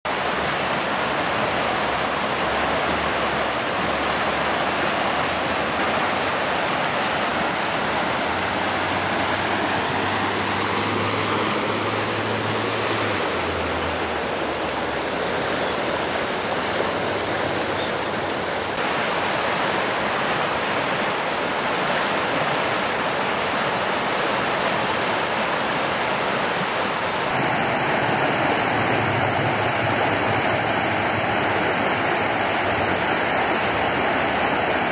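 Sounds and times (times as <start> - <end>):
rushing white-water rapids: 0.1 - 34.9.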